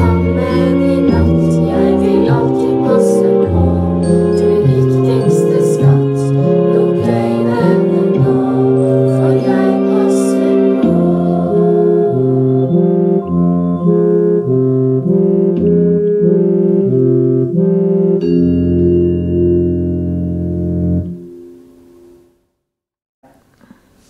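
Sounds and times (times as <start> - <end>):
slow instrumental chords: 0.0 - 22.3.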